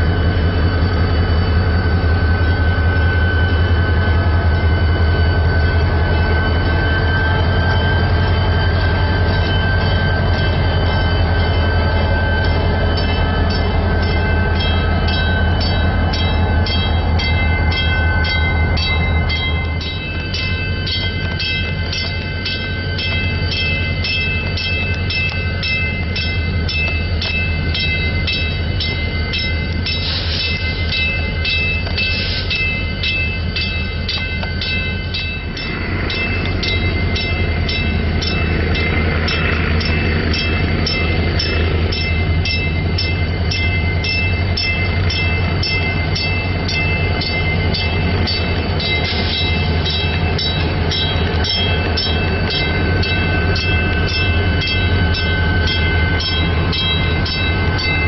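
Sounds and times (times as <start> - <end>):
diesel locomotive engine drone: 0.0 - 58.0
high steady whine: 0.0 - 58.0.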